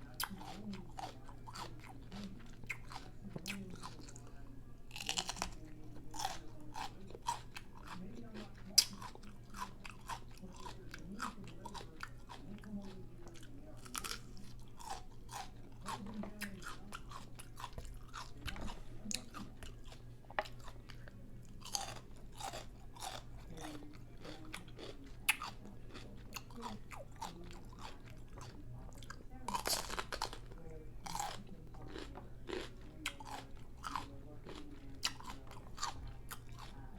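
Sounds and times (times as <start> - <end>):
person chewing crunchy taco: 0.0 - 36.9.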